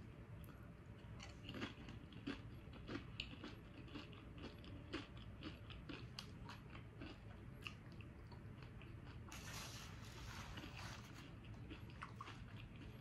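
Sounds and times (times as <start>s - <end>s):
person chewing crunchy chip: 0.4s - 13.0s.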